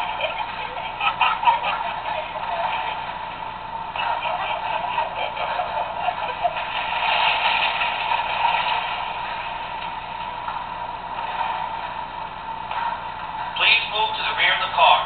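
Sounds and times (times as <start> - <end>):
model streetcar running on track: 0.0 - 15.0.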